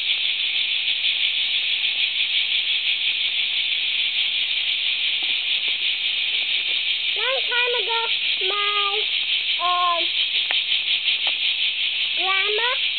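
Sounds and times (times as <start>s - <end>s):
cicadas buzzing: 0.0s - 12.9s.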